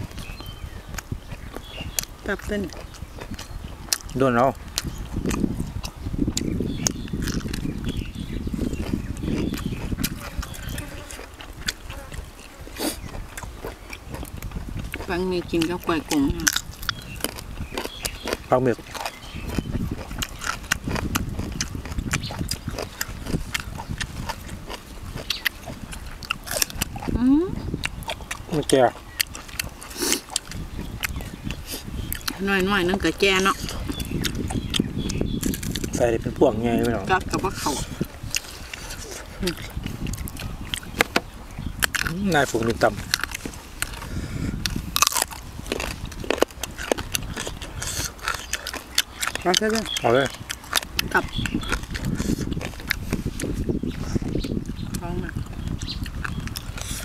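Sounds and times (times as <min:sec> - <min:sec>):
people chewing and lip-smacking: 0:00.0 - 0:57.0
mouth clicks: 0:00.1 - 0:36.1, 0:36.7 - 0:57.0.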